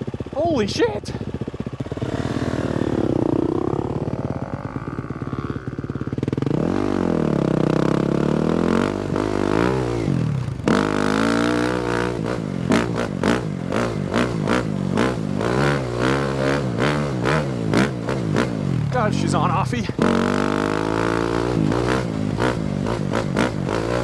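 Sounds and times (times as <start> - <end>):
motorbike engine revving: 0.0 - 24.0.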